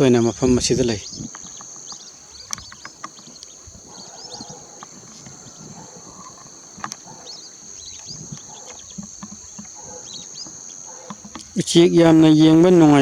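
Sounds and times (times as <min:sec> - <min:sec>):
ducks whistling: 0:00.0 - 0:13.0
high insect drone: 0:00.0 - 0:13.0.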